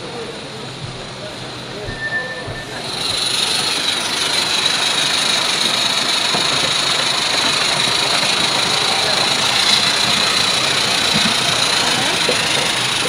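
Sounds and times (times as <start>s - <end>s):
steam hissing: 1.4s - 13.0s.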